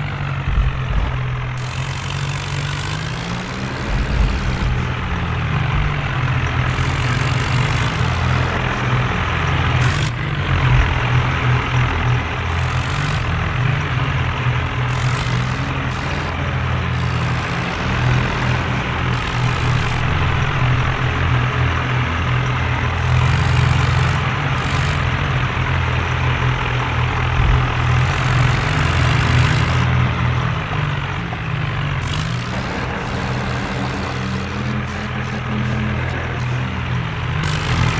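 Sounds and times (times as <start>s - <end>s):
diesel tractor engine running: 0.0s - 37.9s.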